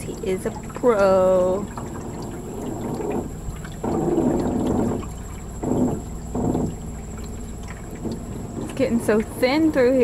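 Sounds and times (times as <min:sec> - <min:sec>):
water sloshing against boat: 0:00.0 - 0:10.0.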